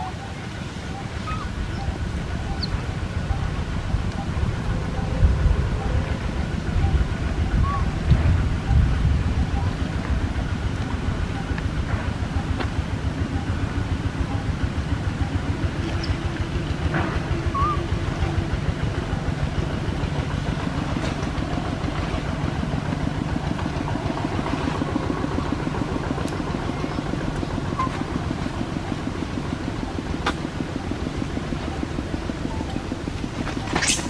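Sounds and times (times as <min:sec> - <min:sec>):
small engine idling: 0:00.0 - 0:34.0.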